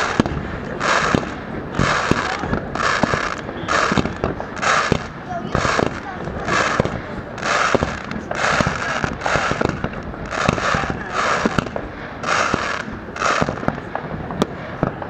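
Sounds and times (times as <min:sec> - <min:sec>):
fireworks bangs: 0:00.0 - 0:15.0
fireworks crackling and hissing: 0:00.0 - 0:15.0.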